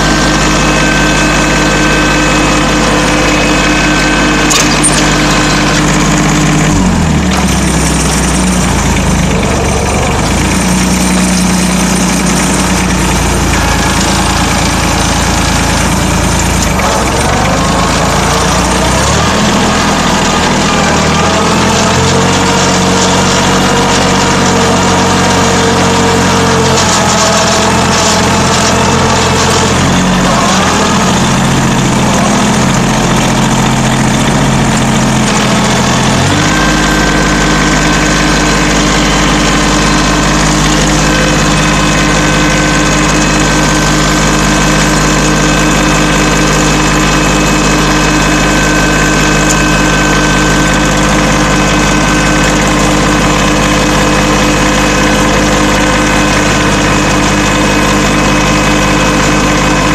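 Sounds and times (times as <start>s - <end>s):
garden cultivator engine running: 0.0s - 59.9s.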